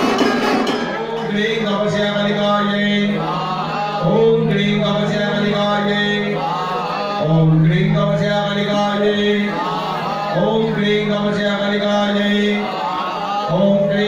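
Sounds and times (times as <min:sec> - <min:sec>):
man chanting mantras: 0:00.9 - 0:14.0.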